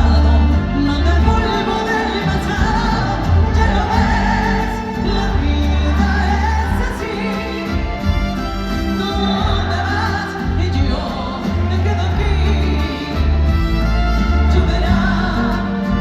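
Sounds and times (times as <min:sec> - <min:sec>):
person singing: 0:00.0 - 0:13.6, 0:14.2 - 0:16.0
live band playing ballad: 0:00.0 - 0:16.0.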